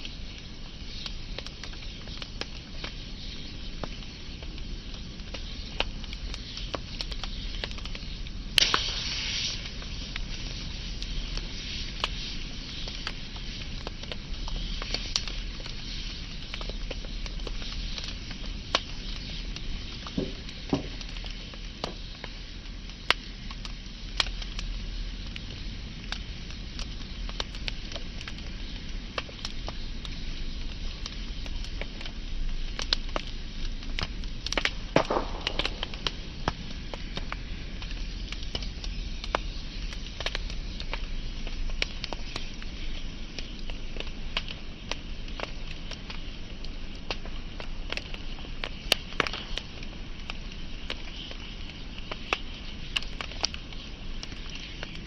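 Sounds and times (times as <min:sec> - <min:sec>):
fire crackling and popping: 0:00.0 - 0:55.0
fire hissing: 0:00.0 - 0:55.0.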